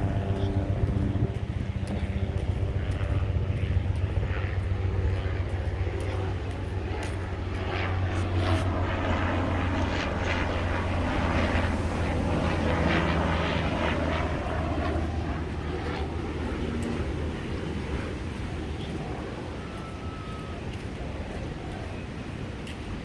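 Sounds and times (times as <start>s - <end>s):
helicopter flying past: 0.0s - 23.0s.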